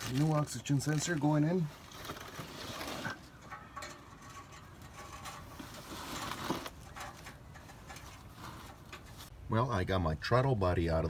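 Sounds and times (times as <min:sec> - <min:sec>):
hand tools clicking and scraping: 0:00.0 - 0:09.3.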